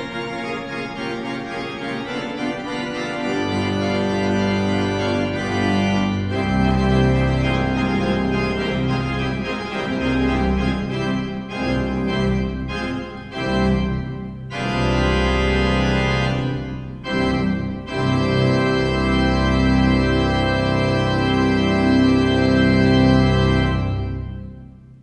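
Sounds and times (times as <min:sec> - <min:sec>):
pipe organ chords: 0:00.0 - 0:25.0.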